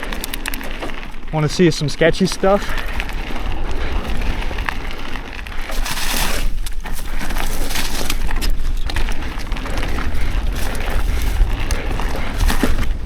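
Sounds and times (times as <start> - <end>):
bike tyres crunching on rock: 0.0 - 13.0
clicks and knocks of stones: 0.0 - 13.0.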